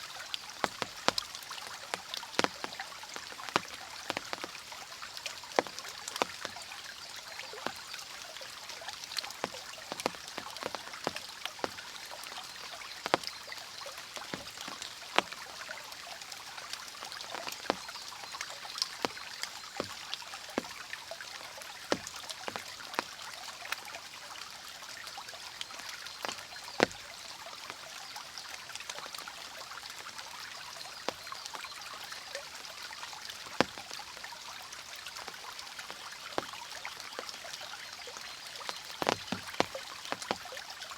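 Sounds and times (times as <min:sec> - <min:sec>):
stream water flowing: 0:00.0 - 0:40.9
water drips and splashes: 0:00.0 - 0:40.9.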